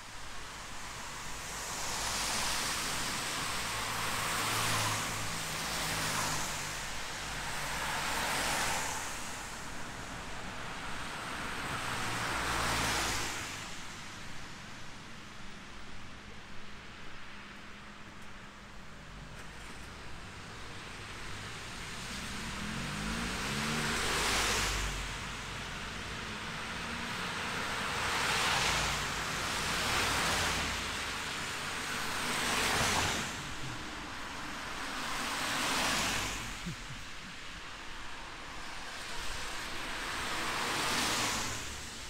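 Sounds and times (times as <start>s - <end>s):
car tyres hissing on wet road: 0.0s - 15.5s, 19.2s - 42.0s.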